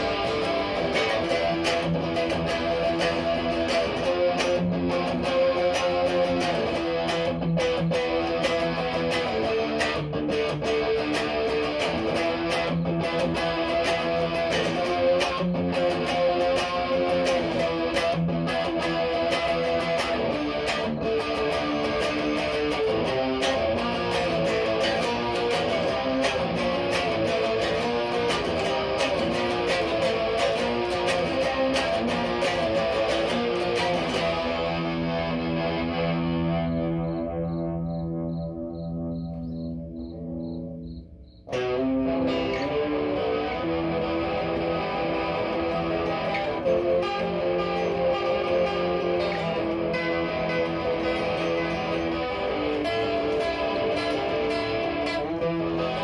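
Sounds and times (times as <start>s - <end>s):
electric guitar chords with chorus: 0.0s - 56.0s.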